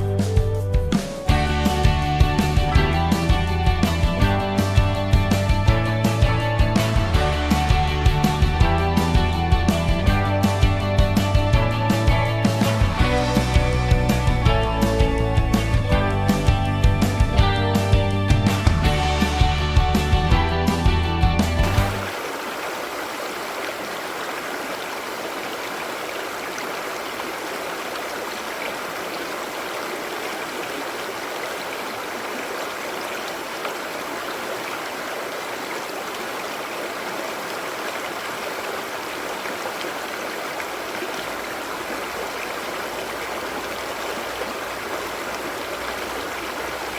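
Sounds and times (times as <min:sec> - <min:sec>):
creek water rushing: 0:00.0 - 0:46.9.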